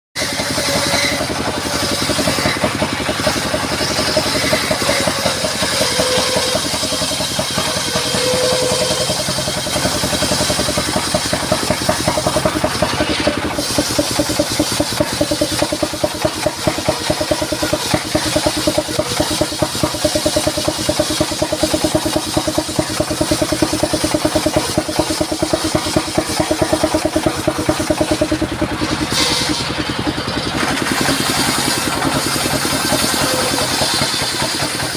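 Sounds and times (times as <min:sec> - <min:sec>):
sawmill engine running: 0:00.2 - 0:34.9.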